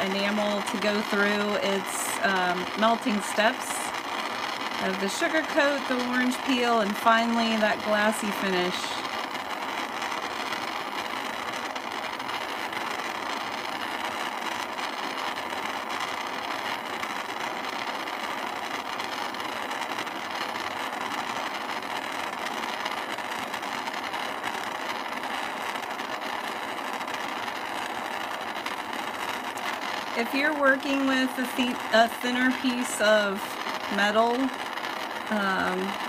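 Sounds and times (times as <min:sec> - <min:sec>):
gas torch flame hissing: 0:00.0 - 0:36.0.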